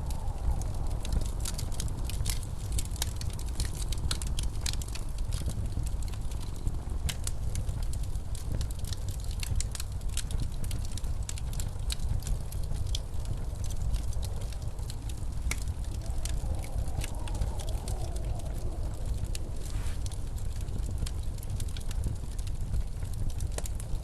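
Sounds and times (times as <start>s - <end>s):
blizzard wind rumbling: 0.0s - 24.0s
wood fire crackling: 0.0s - 24.0s.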